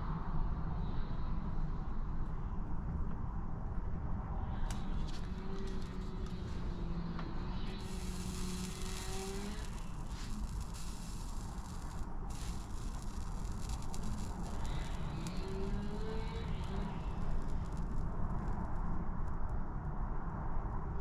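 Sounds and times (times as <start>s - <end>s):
faint engine-like hum: 0.0s - 21.0s
steady low rumble: 1.3s - 21.0s.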